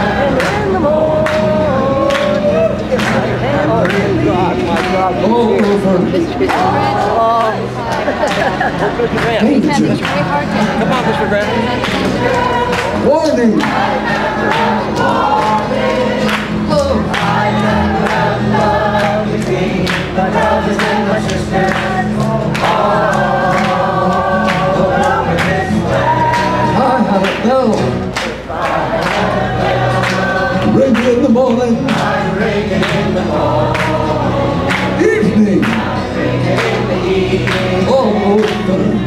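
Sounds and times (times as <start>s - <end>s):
crowd singing along: 0.0s - 39.0s
strummed acoustic guitar: 0.0s - 39.0s.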